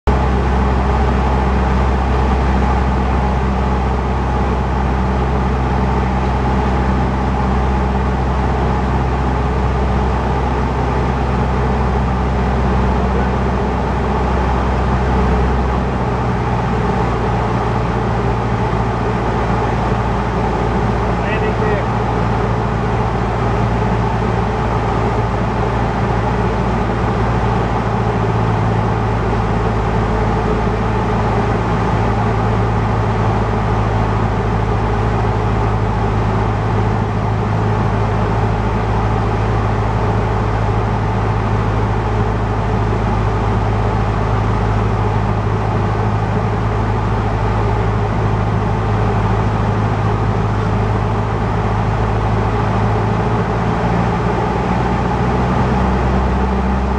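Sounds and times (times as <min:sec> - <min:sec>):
airplane engine and propeller drone: 0:00.1 - 0:56.9.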